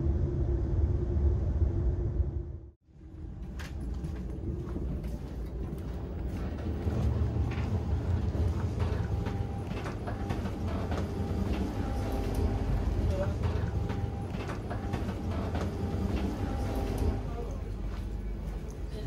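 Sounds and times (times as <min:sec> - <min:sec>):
train coach low rumble: 0:00.0 - 0:19.0.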